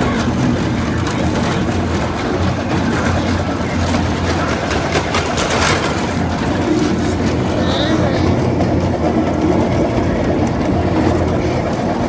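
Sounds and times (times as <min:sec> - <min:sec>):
miniature train rumbling: 0:00.0 - 0:12.0.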